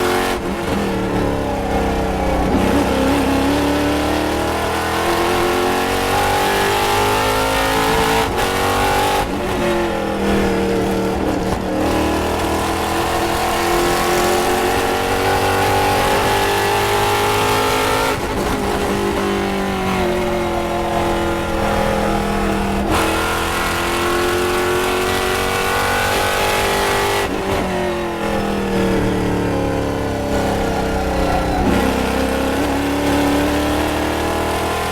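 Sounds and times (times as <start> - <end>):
race car engine shifting gears: 0.0 - 34.9.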